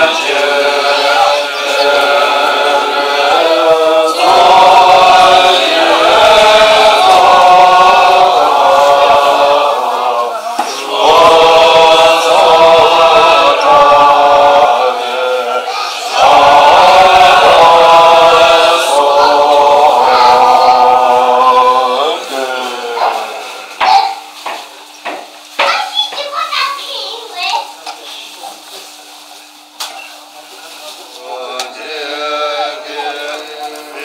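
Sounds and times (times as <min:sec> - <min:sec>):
congregation chanting prayers: 0:00.0 - 0:25.2, 0:28.5 - 0:34.0.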